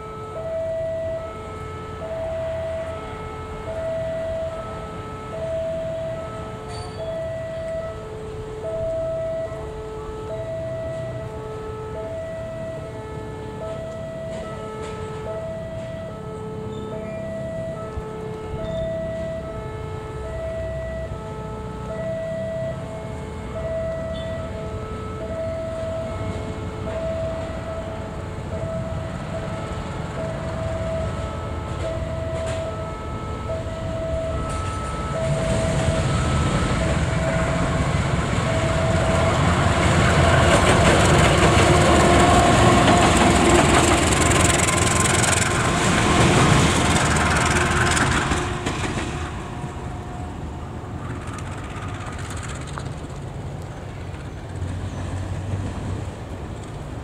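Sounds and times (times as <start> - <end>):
locomotive passing: 0.0 - 57.0.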